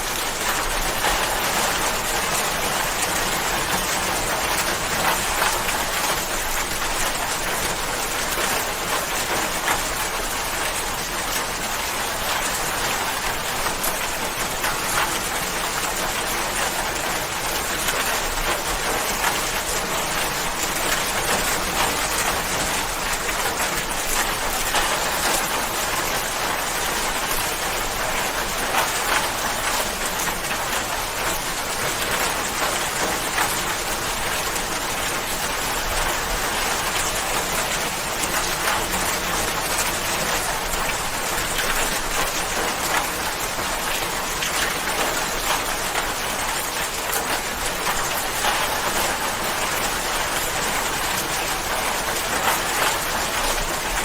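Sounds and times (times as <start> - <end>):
raindrops ticking on a surface: 0.0 - 54.0.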